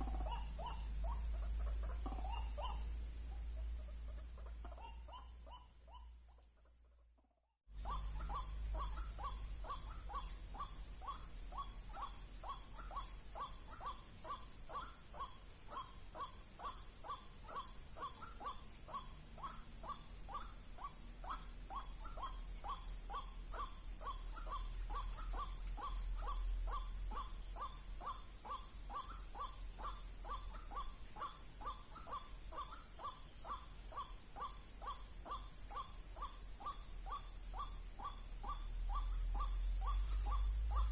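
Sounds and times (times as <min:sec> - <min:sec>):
waterhen calling: 0:00.0 - 0:06.7, 0:07.7 - 0:40.9
steady high hiss: 0:07.7 - 0:40.9.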